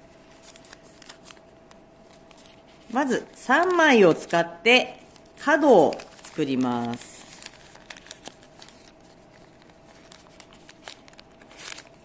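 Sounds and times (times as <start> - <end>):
paper rustling: 0.2 - 12.0.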